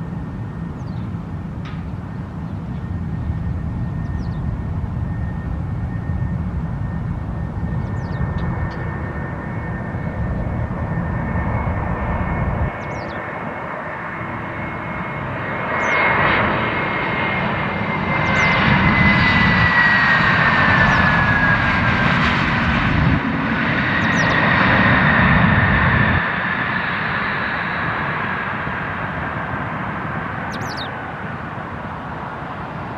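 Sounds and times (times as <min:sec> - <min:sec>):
high engine whine: 0:00.0 - 0:32.9
jet engines passing: 0:00.0 - 0:32.9.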